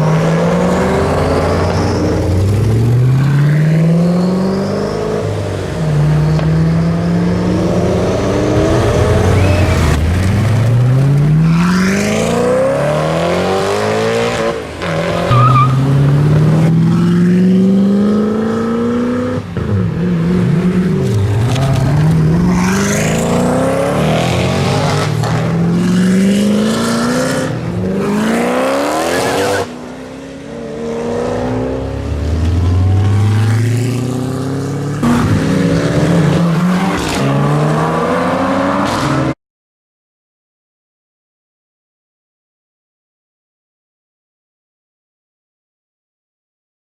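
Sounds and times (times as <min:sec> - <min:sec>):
car engines accelerating hard: 0:00.0 - 0:39.4.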